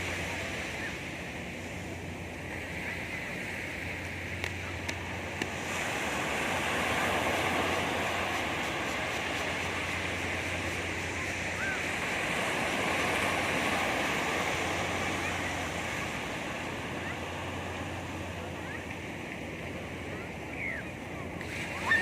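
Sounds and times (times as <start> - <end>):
sea waves washing onto beach: 0.0 - 22.0.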